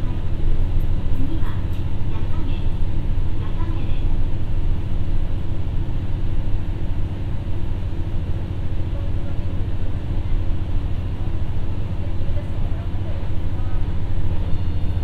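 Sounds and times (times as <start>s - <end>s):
diesel railcar rumbling: 0.0s - 15.0s.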